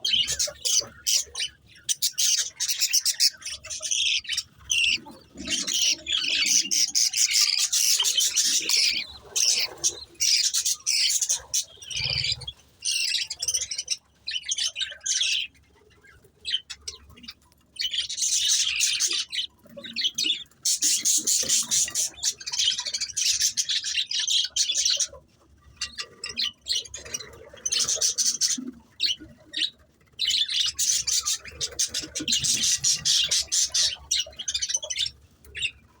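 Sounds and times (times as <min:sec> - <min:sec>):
budgies chirping and squawking: 0:00.0 - 0:36.0.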